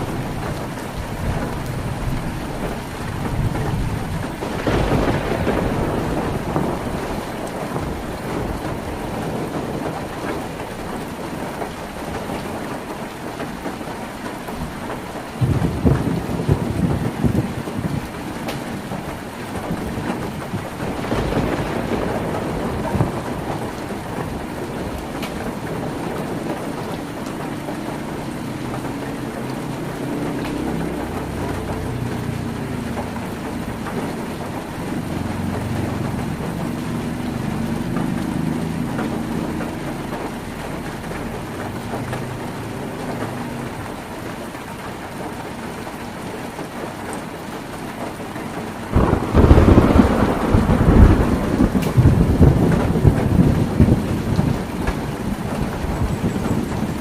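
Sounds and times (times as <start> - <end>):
low thunder rumble: 0.0 - 13.0, 14.5 - 44.2, 48.6 - 57.0
heavy rain on a tin roof: 0.0 - 57.0.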